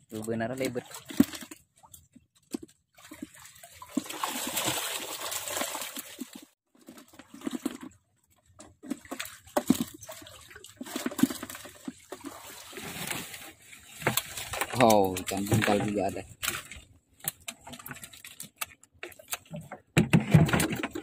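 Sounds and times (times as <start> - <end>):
shallow water splashing: 0.5 - 19.4.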